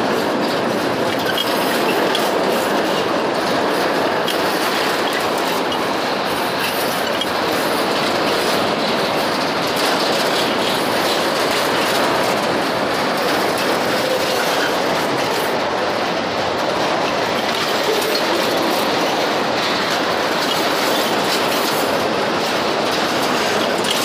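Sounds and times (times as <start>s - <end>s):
freight train rumbling past: 0.0s - 24.0s
wheels clattering on rails: 0.0s - 24.0s.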